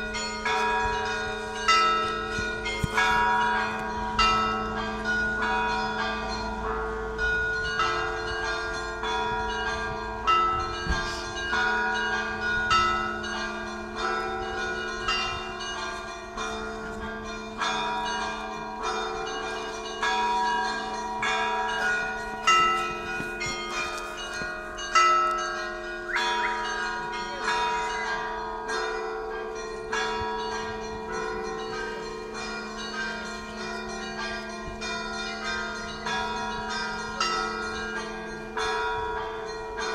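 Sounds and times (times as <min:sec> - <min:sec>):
large bells ringing hum: 0:00.0 - 0:39.9
small bells striking: 0:00.0 - 0:39.9.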